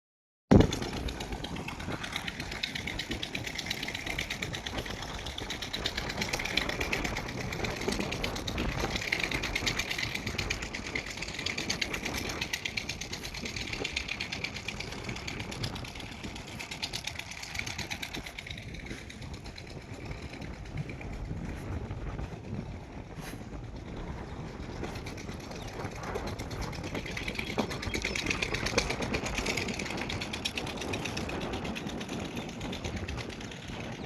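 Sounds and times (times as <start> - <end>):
excavator diesel engine running: 0.5 - 34.0
fast mechanical rattle: 0.5 - 34.0.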